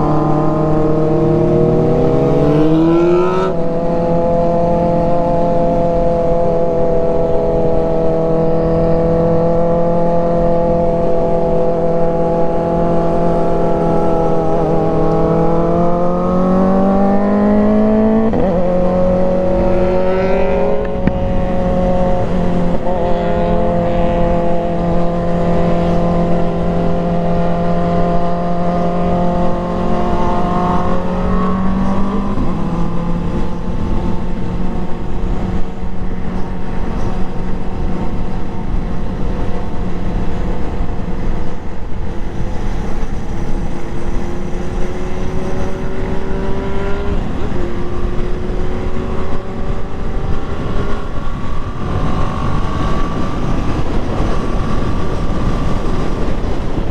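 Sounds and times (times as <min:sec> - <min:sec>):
constant rushing noise: 0:00.0 - 0:56.9
motorcycle engine running: 0:00.0 - 0:56.9.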